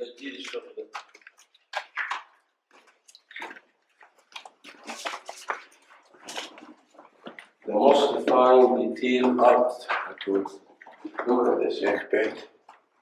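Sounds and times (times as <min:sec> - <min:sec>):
footsteps scuffing on stone floor: 0:00.4 - 0:13.0.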